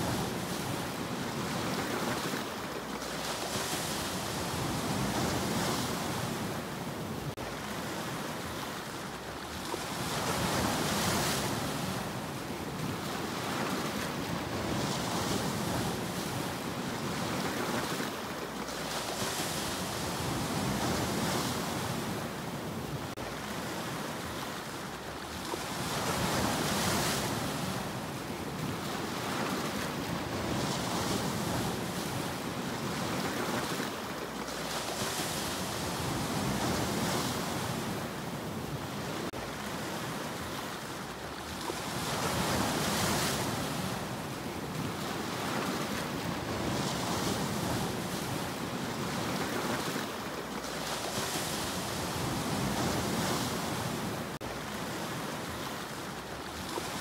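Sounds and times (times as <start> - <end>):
sea surf washing ashore: 0.0 - 57.0.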